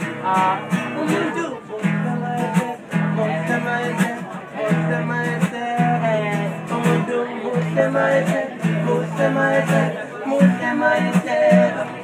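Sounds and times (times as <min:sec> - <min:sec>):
acoustic guitar strumming chords: 0:00.0 - 0:12.0
people singing: 0:00.0 - 0:12.0.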